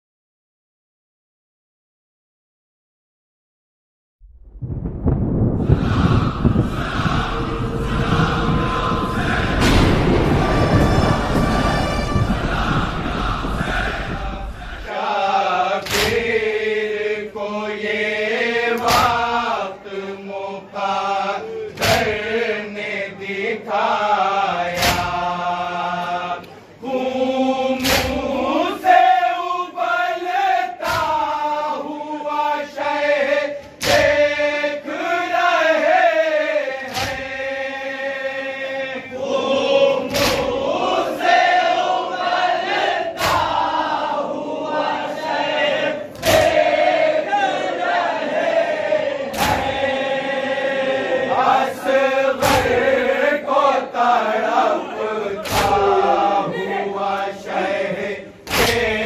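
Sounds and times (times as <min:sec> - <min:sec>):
men chanting in unison: 0:05.6 - 0:59.0.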